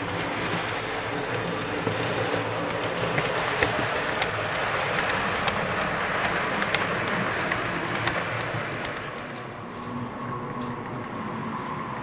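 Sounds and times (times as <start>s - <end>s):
model train wheels rumbling: 0.0s - 11.6s
wheels clicking over rail joints: 0.0s - 12.0s.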